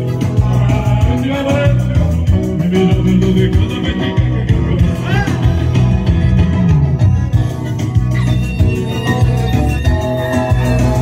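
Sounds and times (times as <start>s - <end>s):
electronic keyboard dance music: 0.0s - 11.0s.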